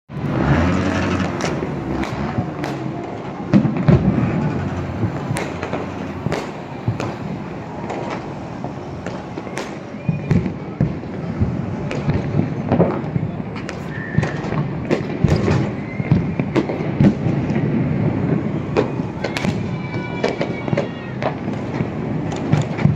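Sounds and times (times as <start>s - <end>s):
fireworks and firecrackers banging: 0.1s - 22.9s.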